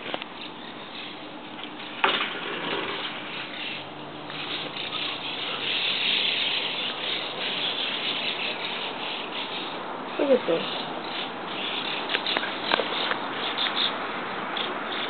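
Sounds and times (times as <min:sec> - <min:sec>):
flock of birds chattering: 0:00.0 - 0:15.0.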